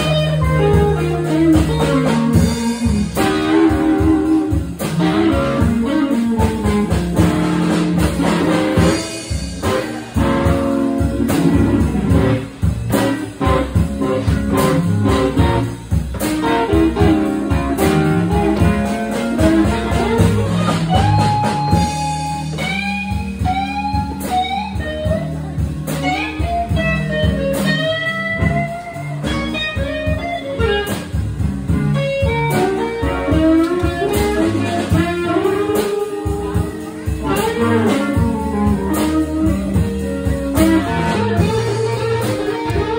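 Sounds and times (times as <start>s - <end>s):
blues band playing: 0.0s - 42.9s
lead guitar solo: 0.0s - 42.9s.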